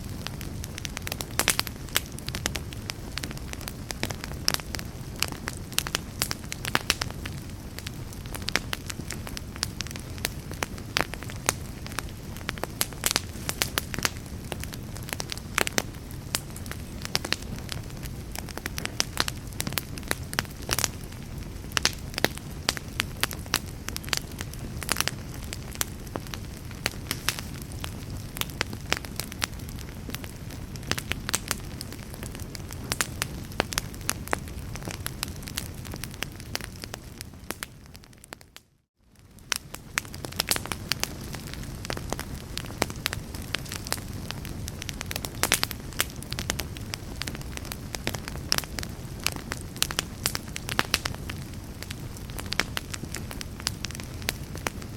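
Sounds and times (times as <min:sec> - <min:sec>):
log fire crackling: 0:00.0 - 0:54.9.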